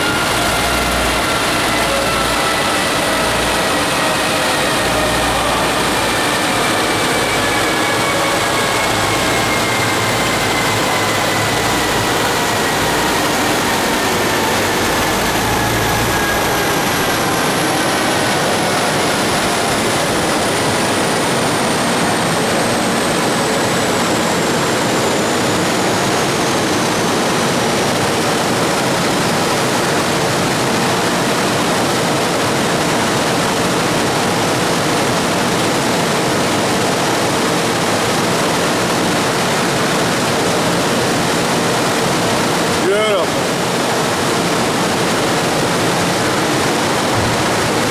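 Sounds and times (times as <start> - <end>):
engine on dyno rushing roar: 0.0 - 47.9.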